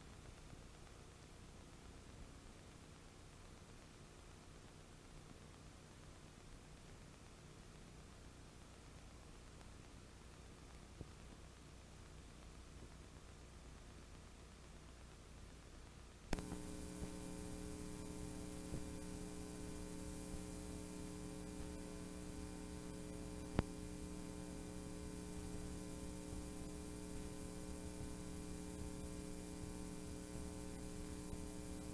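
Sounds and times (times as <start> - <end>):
blank tape hiss: 0.0 - 31.9
electrical mains hum: 0.0 - 31.9.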